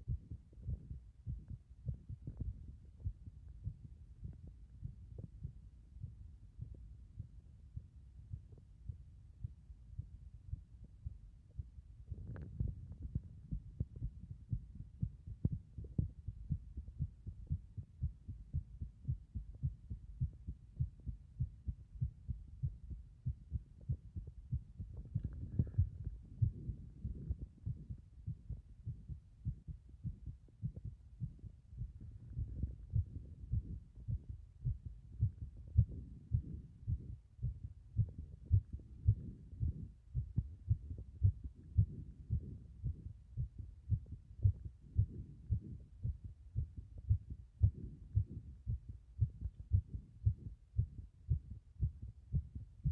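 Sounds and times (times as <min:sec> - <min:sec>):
heartbeat thumps: 0:00.0 - 0:52.9.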